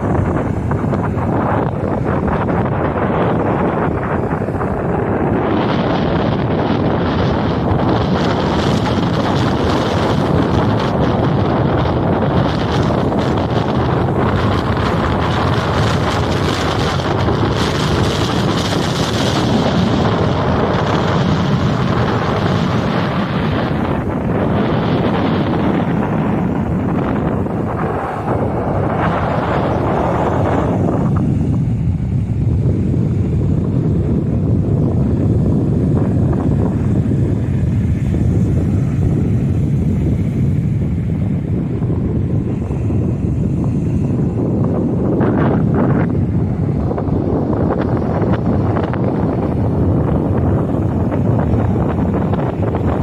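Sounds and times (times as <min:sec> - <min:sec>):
rough sea waves breaking: 0:00.0 - 0:53.0
wind buffeting microphone: 0:00.0 - 0:53.0.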